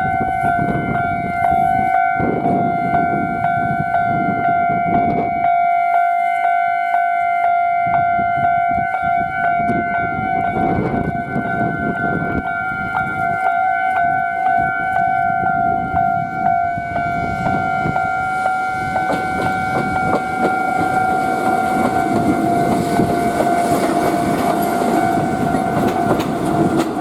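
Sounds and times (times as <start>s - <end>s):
level crossing warning bell: 0.0s - 27.0s.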